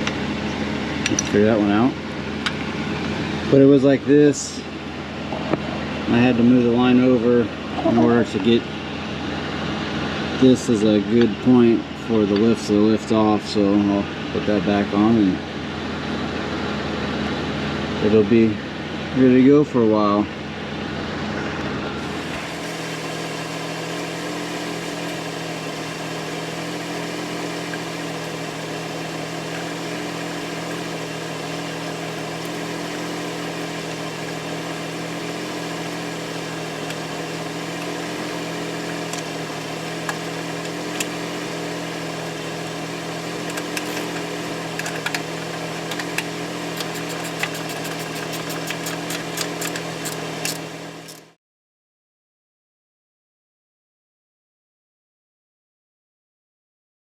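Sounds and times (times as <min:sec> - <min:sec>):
engine running with even hum: 0:00.0 - 0:51.4.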